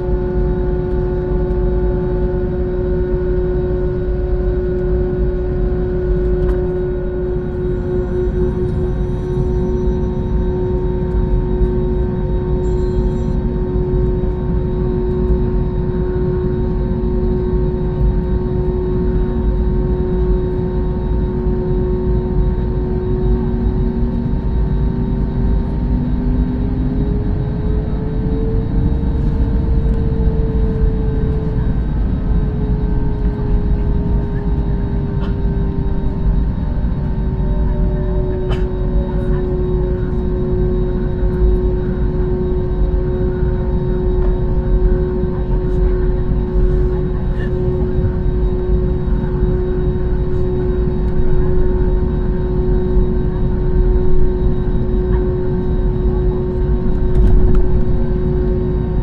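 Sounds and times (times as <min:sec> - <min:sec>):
jet engines rumbling from cabin: 0:00.0 - 0:59.0.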